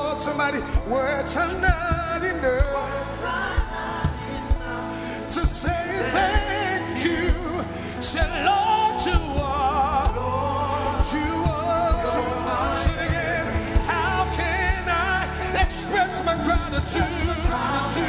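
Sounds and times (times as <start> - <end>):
band with drums playing: 0.0 - 10.4, 11.0 - 18.0
person singing with vibrato: 0.0 - 18.0.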